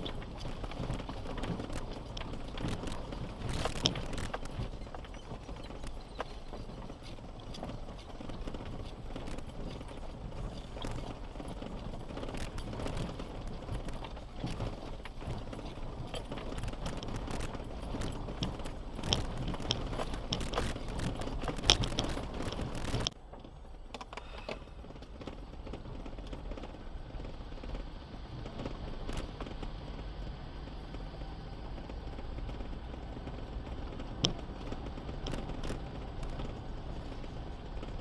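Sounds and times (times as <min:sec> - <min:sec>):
vehicle driving over rough track: 0:00.0 - 0:38.0.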